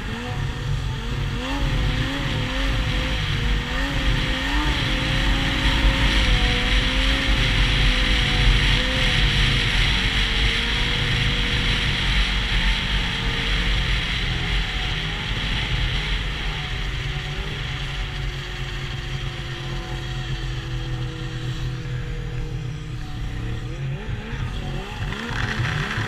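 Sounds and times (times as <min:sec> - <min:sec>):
snowmobile engine running: 0:00.0 - 0:26.0
track clatter: 0:01.3 - 0:26.0.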